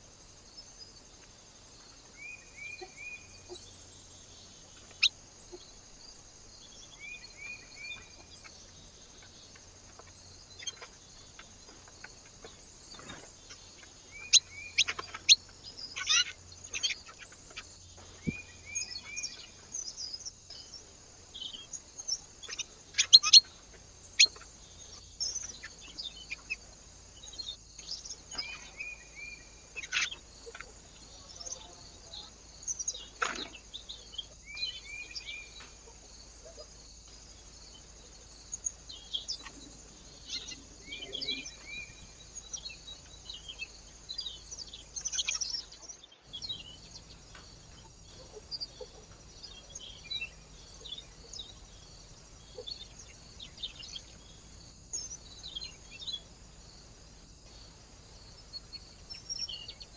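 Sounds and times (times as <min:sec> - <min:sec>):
faint background hiss: 0:00.0 - 0:59.9
small birds chirping: 0:00.0 - 0:59.9.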